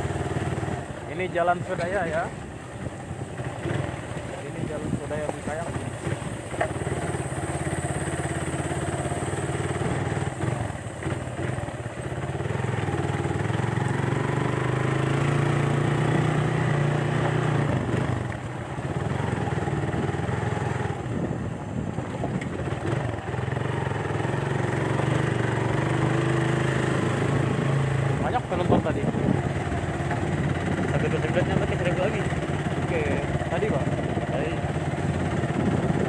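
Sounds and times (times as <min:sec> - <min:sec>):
road and wind noise: 0:00.0 - 0:36.0
small motorcycle engine running: 0:00.0 - 0:36.0.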